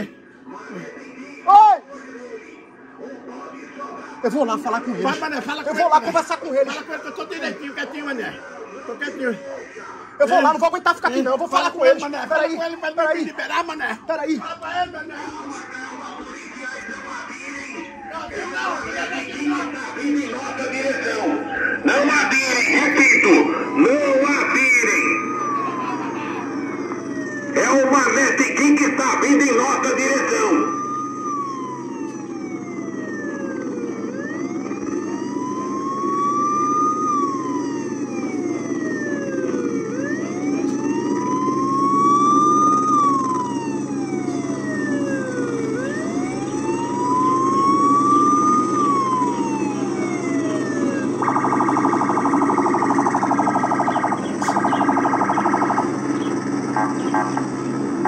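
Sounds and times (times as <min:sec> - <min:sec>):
police siren wailing: 0:00.0 - 0:58.0.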